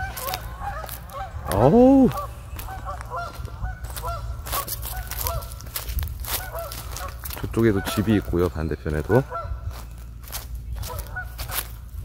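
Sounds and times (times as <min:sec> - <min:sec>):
waterfowl calling in flight: 0:00.0 - 0:12.0.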